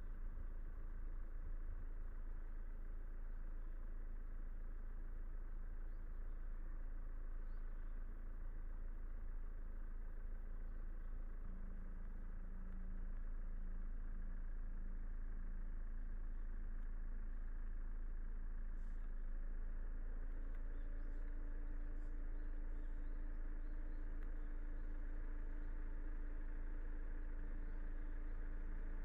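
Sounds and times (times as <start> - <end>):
car engine and road noise: 0.0 - 29.0
faint steady tone: 0.0 - 29.0.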